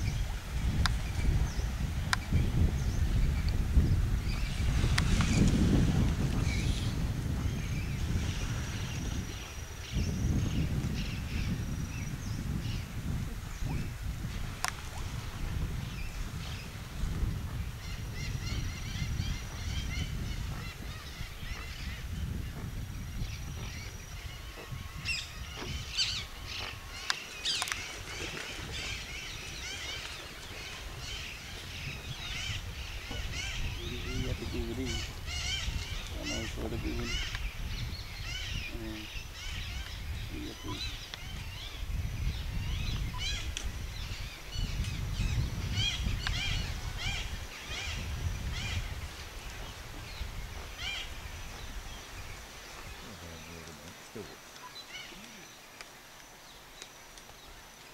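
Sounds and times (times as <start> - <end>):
birds chirping: 0.0 - 13.9, 15.6 - 57.9.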